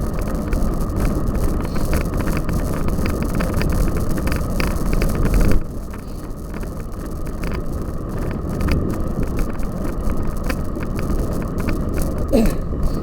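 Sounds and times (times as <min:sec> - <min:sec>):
bicycle rumbling over rough ground: 0:00.0 - 0:13.0
bike rattling clicks: 0:00.0 - 0:13.0.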